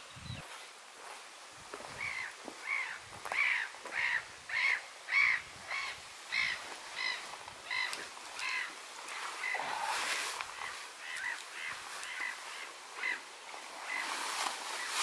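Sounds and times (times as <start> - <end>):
bird calling: 1.9 - 15.0.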